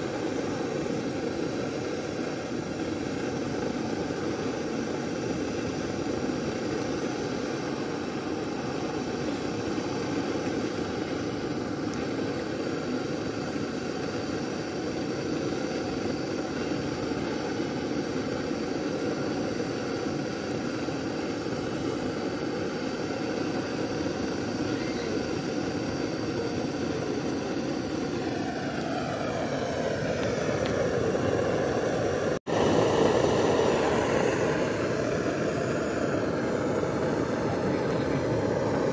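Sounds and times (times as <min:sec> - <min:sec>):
stove burner roaring: 0:00.0 - 0:38.9.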